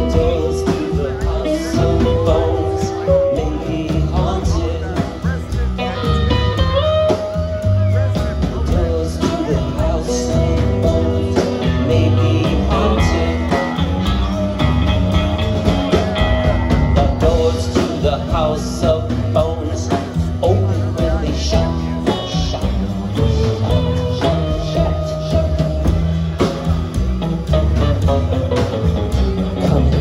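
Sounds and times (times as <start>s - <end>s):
acoustic guitar: 0.0s - 30.0s
drum kit: 0.0s - 30.0s
electric guitar: 0.0s - 30.0s
upright bass: 0.0s - 30.0s.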